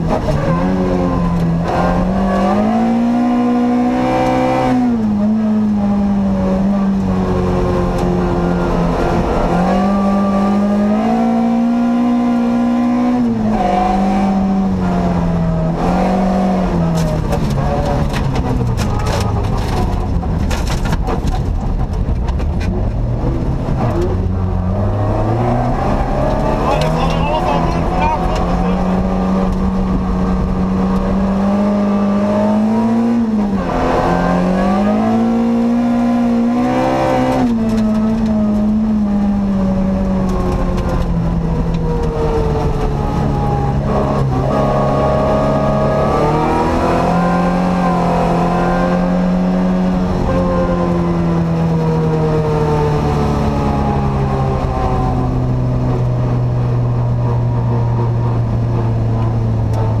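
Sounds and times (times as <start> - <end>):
car engine revving under load: 0.0 - 60.0.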